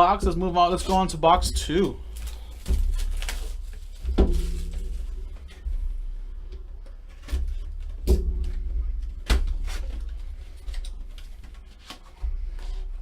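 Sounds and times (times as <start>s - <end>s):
cardboard rustling: 0.0s - 13.0s.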